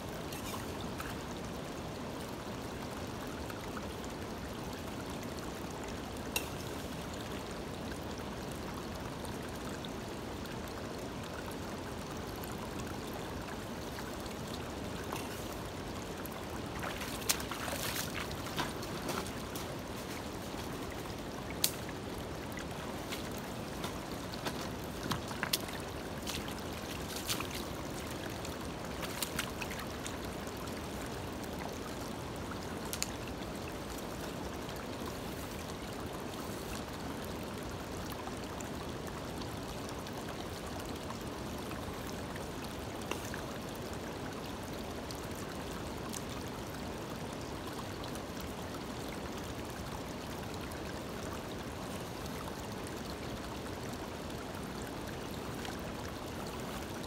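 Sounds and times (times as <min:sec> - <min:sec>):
stream water running over stones: 0:00.0 - 0:57.0.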